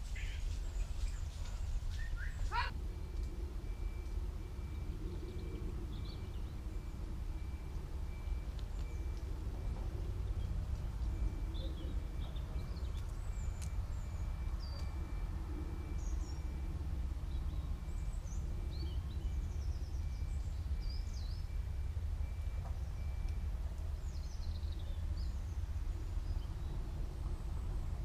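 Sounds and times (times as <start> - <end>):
small birds chirping: 0.0 - 2.7, 4.6 - 15.2, 15.8 - 27.8.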